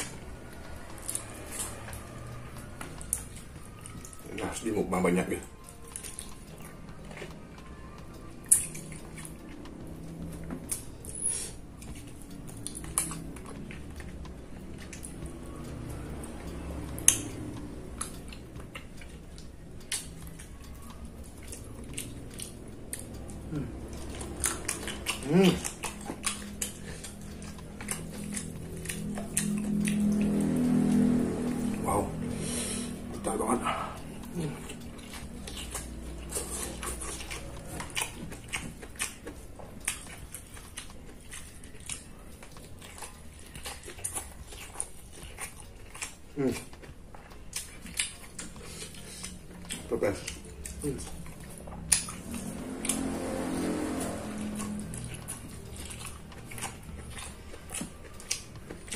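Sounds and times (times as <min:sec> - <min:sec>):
chewing and mouth sounds: 0:00.0 - 0:58.9.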